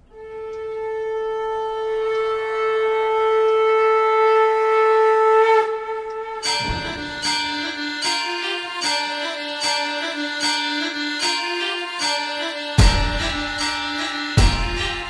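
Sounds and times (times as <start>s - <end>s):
conch shell blown: 0.0s - 15.0s.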